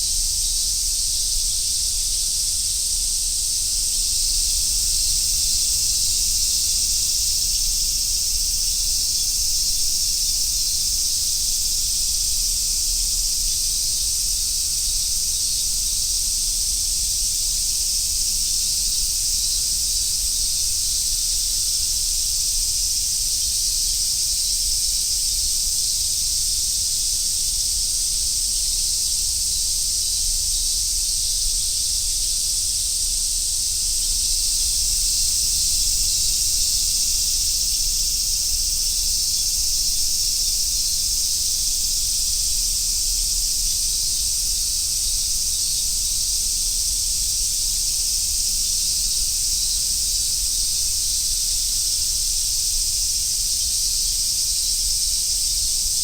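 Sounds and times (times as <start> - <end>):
cicada chorus: 0.0 - 56.0.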